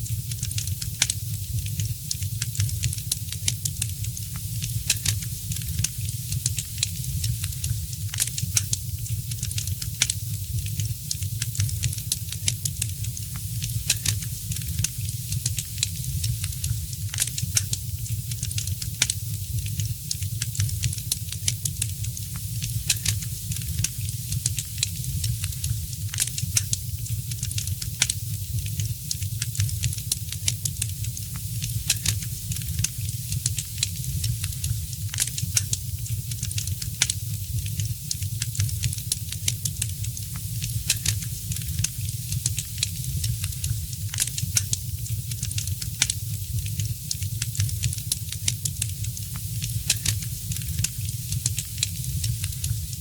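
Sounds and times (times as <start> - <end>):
fire crackling and popping: 0.0 - 53.0
low fire rumble: 0.0 - 53.0.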